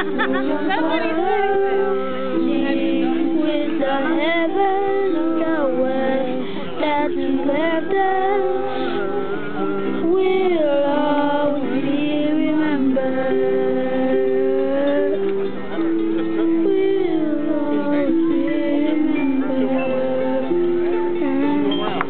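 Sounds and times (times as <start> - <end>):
women singing: 0.0 - 15.4, 16.4 - 22.0
electronic keyboard chords: 0.0 - 22.0.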